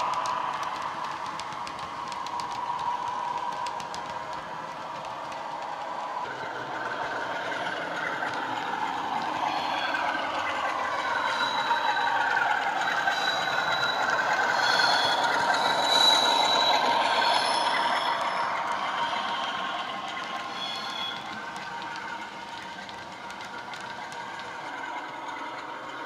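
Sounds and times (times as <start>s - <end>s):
model train running noise: 0.0s - 26.0s.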